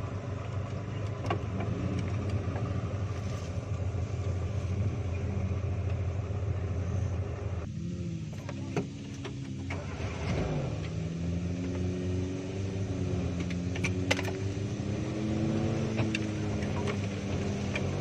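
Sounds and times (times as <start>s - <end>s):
engine running under load: 0.0s - 18.0s.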